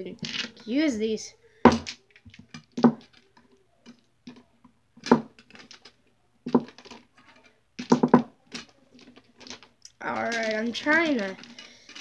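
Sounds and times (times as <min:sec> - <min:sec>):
pool balls clicking: 0:01.6 - 0:12.0.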